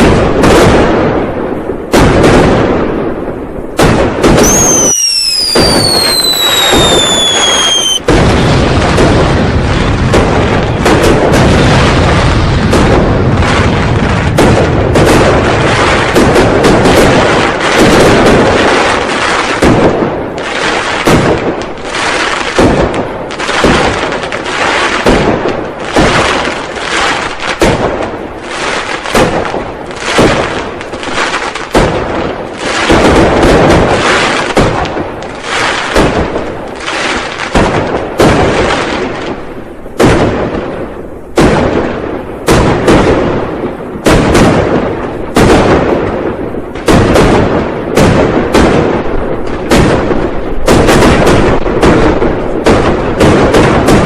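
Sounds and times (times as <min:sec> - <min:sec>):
firecrackers and fireworks banging: 0:00.0 - 0:54.0.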